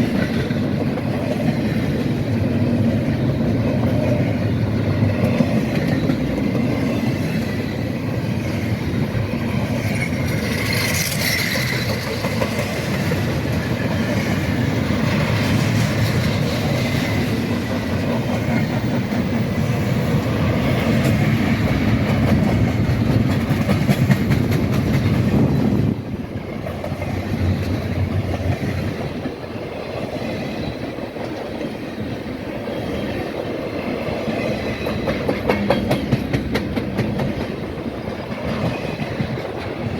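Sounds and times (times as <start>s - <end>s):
freight train cars rolling: 0.0s - 39.9s
wheels clacking over rail joints: 0.0s - 39.9s.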